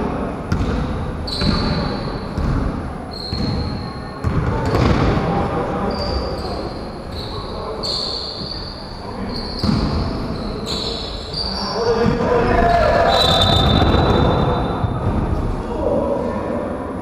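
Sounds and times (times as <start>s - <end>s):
sneaker squeaks: 0.5s - 5.1s, 5.7s - 15.2s.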